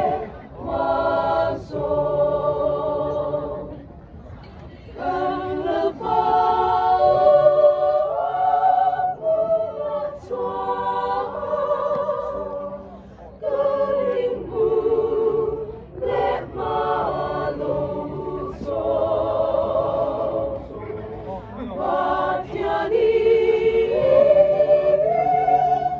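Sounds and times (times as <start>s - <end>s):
mixed choir singing a cappella: 0.0s - 3.9s, 4.9s - 25.9s.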